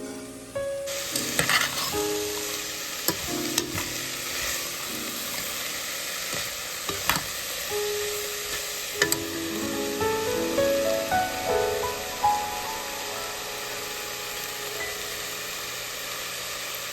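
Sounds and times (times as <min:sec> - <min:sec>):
soft piano music: 0:00.0 - 0:16.4
steady hiss: 0:00.0 - 0:16.9.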